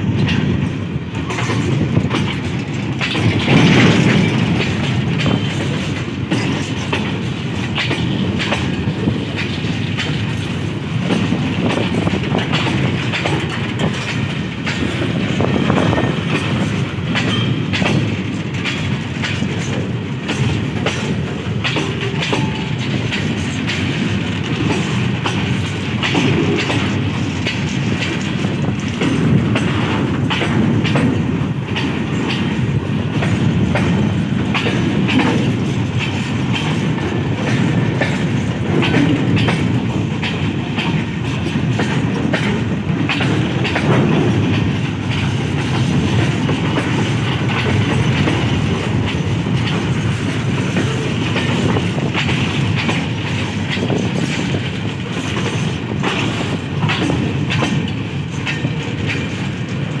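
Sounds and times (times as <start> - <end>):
freight wagon wheels rumbling: 0.0 - 60.0
wheels clacking over rail joints: 0.0 - 60.0.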